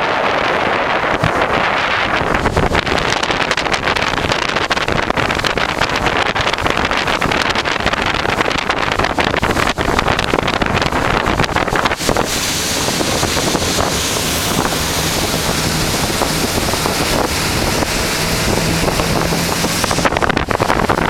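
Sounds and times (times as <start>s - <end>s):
low engine hum: 0.0s - 21.0s
rush of wind and water spray: 0.0s - 21.0s
wind buffeting microphone: 0.0s - 21.0s.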